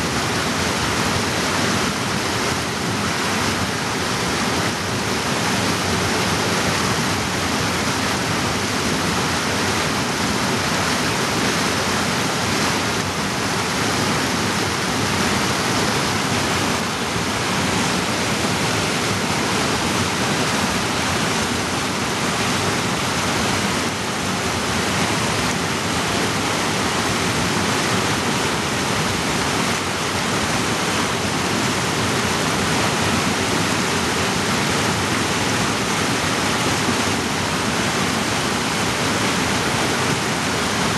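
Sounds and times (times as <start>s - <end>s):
creek rushing over boulders: 0.0s - 40.9s.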